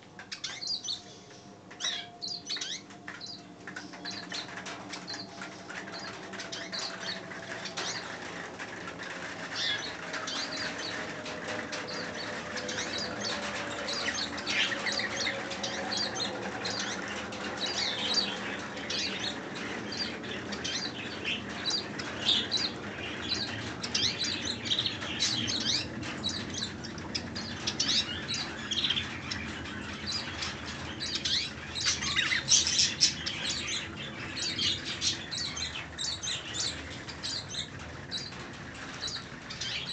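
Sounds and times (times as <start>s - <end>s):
birds fluttering: 0.1s - 39.9s.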